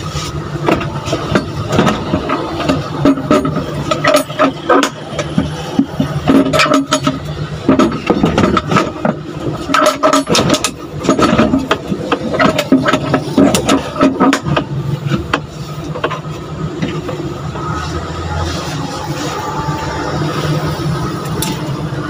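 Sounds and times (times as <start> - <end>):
parts clicking and rattling: 0.0 - 17.6, 18.4 - 22.0.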